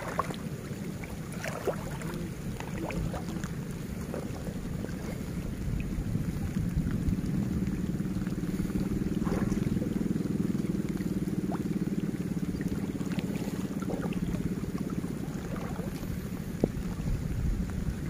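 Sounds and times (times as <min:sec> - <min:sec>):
faint water sounds: 0:00.0 - 0:18.0
low engine hum: 0:00.0 - 0:18.0.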